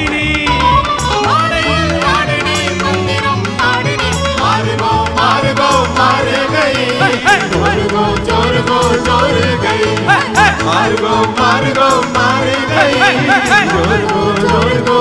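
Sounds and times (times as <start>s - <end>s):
live band playing: 0.0s - 15.0s
man and woman singing duet: 0.0s - 15.0s.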